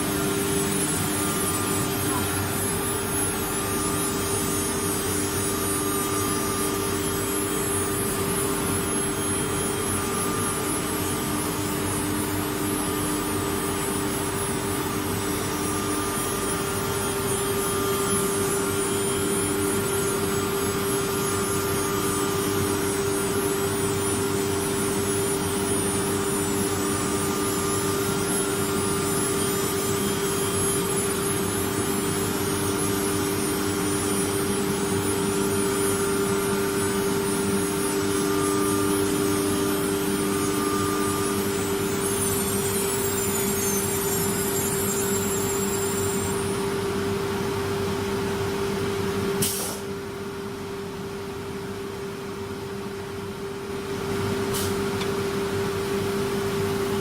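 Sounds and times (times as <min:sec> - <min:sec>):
router spindle whine: 0:00.0 - 0:47.2
mechanical hum: 0:00.0 - 0:57.0.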